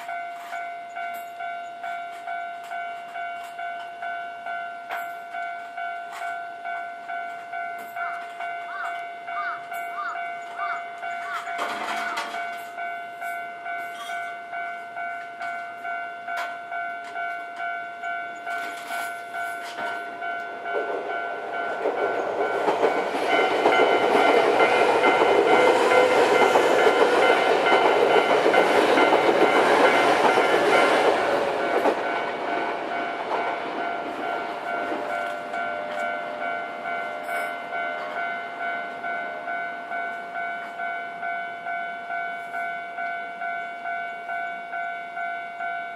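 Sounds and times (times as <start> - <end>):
electric train passing: 0.0 - 45.9
level crossing warning bell: 0.0 - 45.9.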